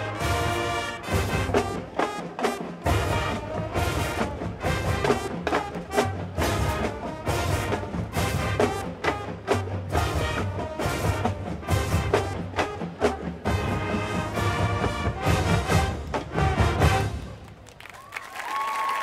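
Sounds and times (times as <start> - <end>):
marching band drums: 0.0 - 17.5
marching band brass: 0.0 - 17.7.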